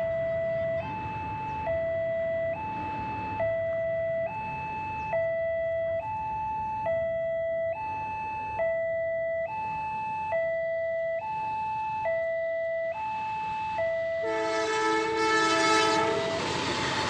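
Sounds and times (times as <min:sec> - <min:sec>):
two-tone crossing alarm: 0:00.0 - 0:17.0.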